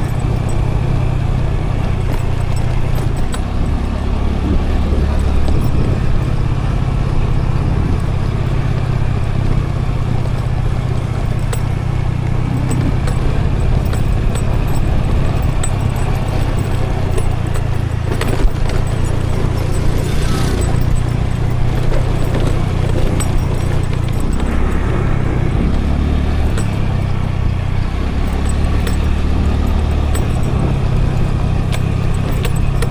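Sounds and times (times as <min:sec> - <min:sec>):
road and wind noise: 0:00.0 - 0:32.9
scooter engine running: 0:00.0 - 0:32.9.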